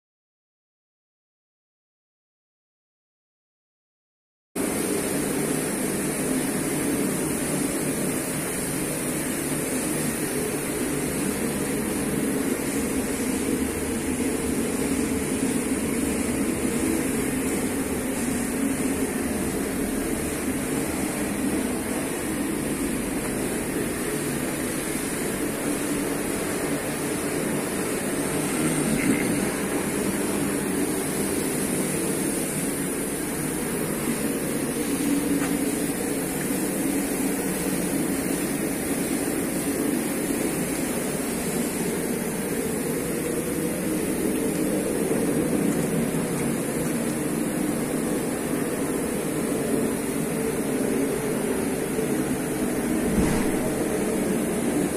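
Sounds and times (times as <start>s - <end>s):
workshop machinery drone: 4.6s - 54.9s.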